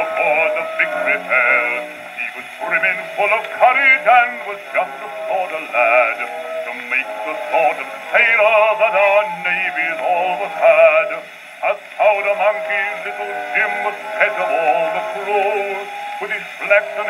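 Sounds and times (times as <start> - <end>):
bass singer with vibrato on record: 0.0 - 17.0.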